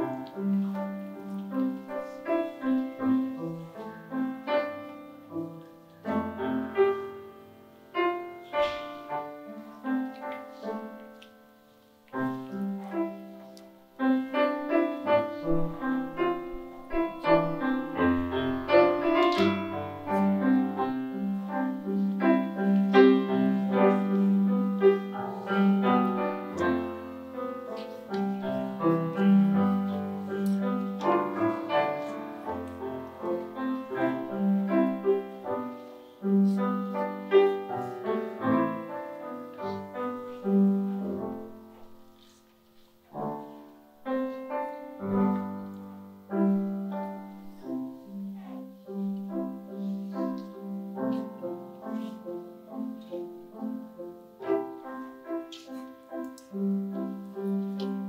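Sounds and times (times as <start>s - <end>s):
solo piano: 0.0s - 58.0s.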